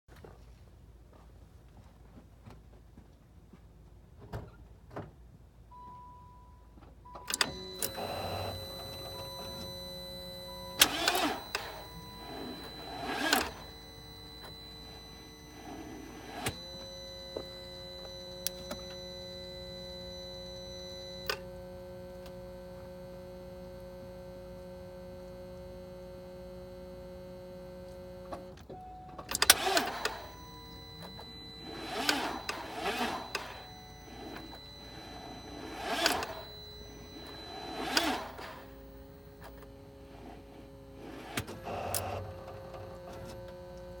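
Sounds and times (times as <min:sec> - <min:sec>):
car electrics clicking and buzzing: 0:07.1 - 0:44.0
steady electrical whine: 0:07.2 - 0:44.0.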